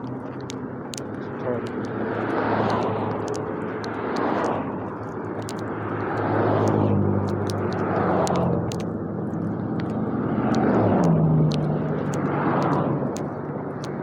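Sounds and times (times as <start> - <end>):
engine humming: 0.0 - 14.0
light ticks and clicks: 0.0 - 14.0.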